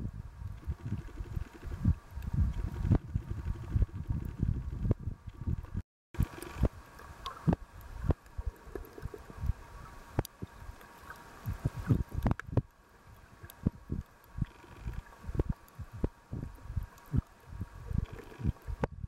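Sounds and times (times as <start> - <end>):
sharp underwater clicks: 0.6 - 9.5, 10.2 - 12.8, 13.4 - 19.0.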